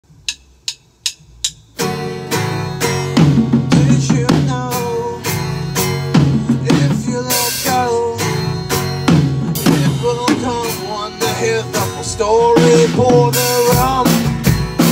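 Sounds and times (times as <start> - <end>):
drum kit hits: 0.1 - 14.9
bending melody line: 1.4 - 14.9
strummed guitar chords: 1.7 - 14.9.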